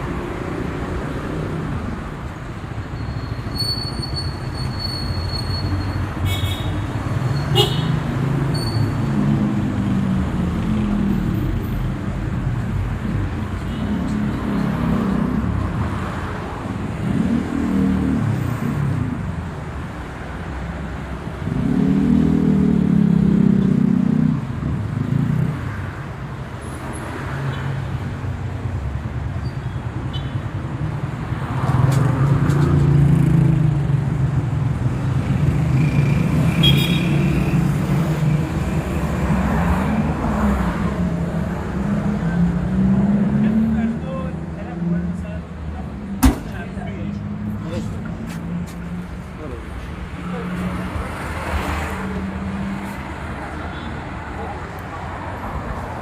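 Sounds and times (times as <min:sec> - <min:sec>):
car engines passing: 0:04.3 - 0:56.0.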